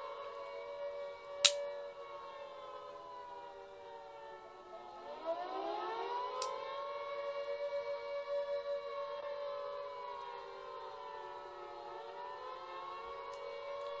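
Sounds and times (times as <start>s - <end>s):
siren wailing: 0.0s - 14.0s.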